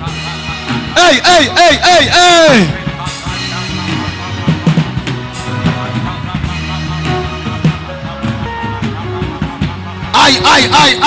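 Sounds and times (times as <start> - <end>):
drum strokes: 0.0 - 11.0
worship music with sustained chords: 0.0 - 11.0.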